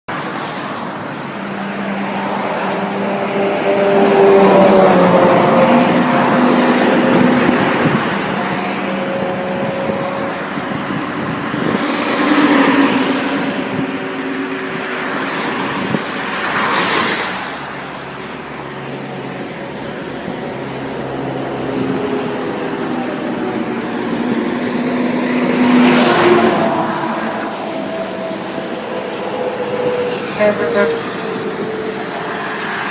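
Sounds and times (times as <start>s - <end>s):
vehicles passing by: 0.1s - 32.9s.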